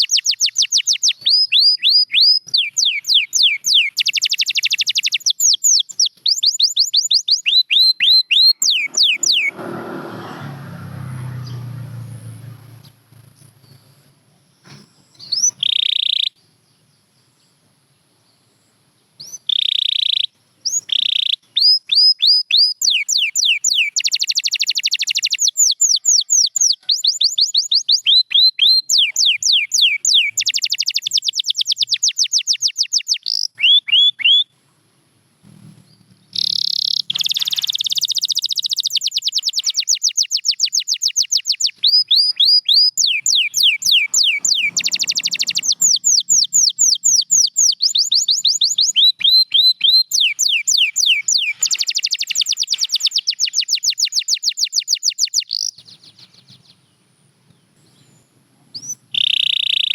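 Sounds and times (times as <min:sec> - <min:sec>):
canary singing: 0:00.0 - 0:10.2, 0:14.7 - 0:16.4, 0:19.2 - 0:34.6, 0:35.5 - 0:56.8, 0:58.8 - 0:59.9.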